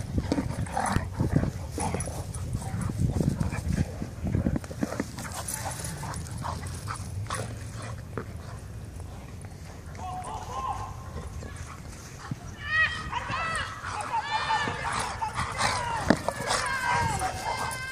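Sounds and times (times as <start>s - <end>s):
paws scuffling on grass: 0.0s - 17.9s.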